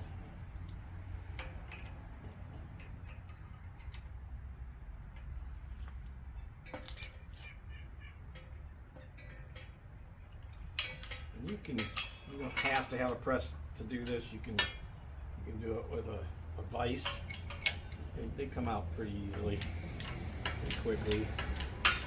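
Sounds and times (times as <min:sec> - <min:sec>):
low steady hum: 0:00.0 - 0:22.0
light metal clicks and taps: 0:00.3 - 0:04.2, 0:05.0 - 0:07.6, 0:08.3 - 0:14.9, 0:16.7 - 0:22.0.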